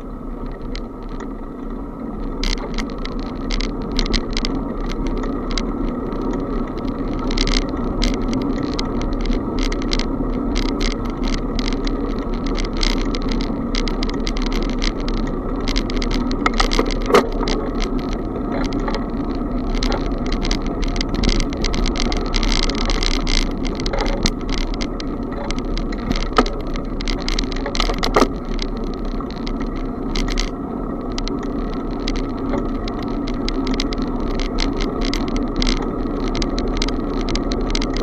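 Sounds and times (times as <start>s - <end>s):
bicycle rattling clicks: 0.0s - 38.0s
bicycle tyre noise: 0.0s - 38.0s
wind rumble on microphone: 0.0s - 38.0s.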